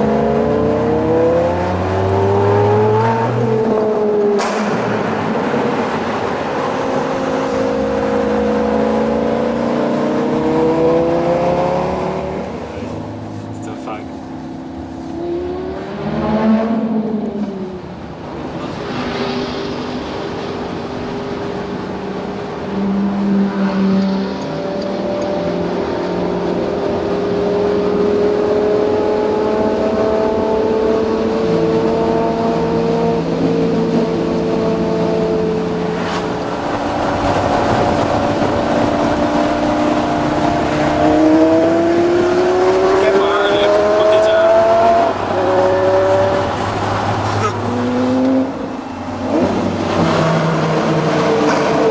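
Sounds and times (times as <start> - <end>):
sports car engine revving: 0.0 - 51.9.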